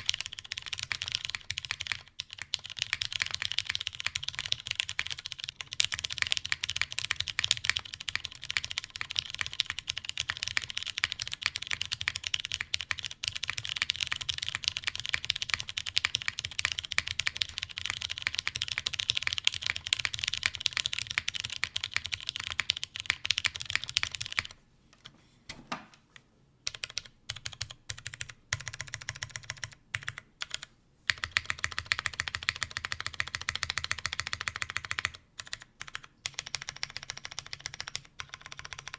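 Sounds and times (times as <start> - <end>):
mechanical keyboard typing: 0.0 - 24.6, 26.6 - 38.9.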